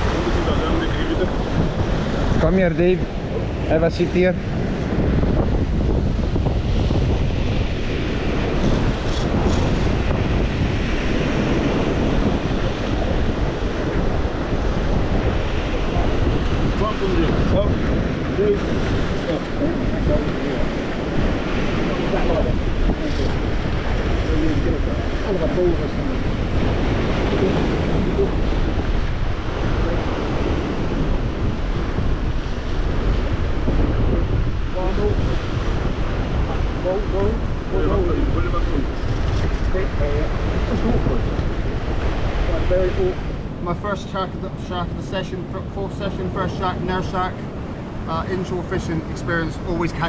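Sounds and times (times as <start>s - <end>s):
ocean surf breaking on rocks: 0.0s - 50.0s
wind buffeting microphone: 0.0s - 50.0s.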